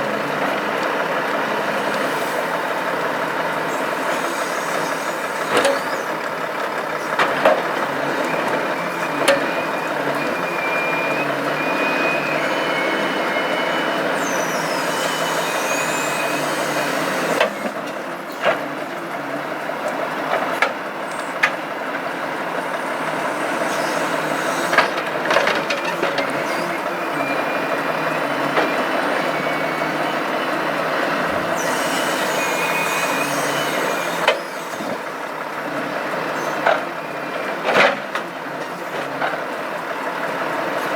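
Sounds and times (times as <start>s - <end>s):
hydraulic whine: 0.0s - 19.8s, 20.5s - 40.9s
truck engine running: 0.0s - 40.9s.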